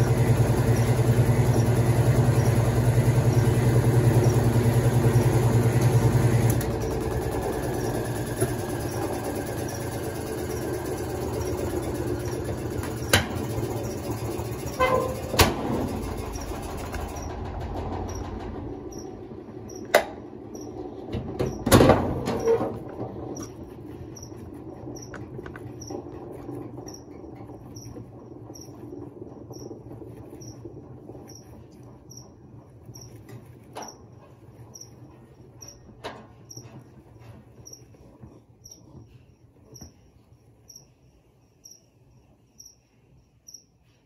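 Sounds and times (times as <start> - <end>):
washing machine low hum: 0.0 - 44.0.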